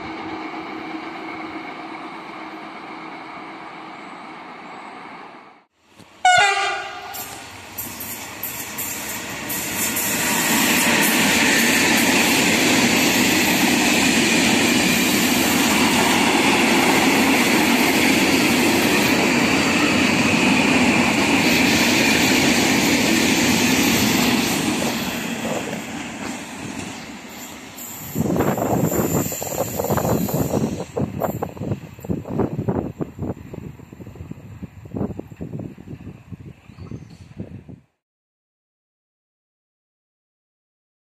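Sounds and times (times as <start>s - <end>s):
freight train passing: 0.0s - 37.7s.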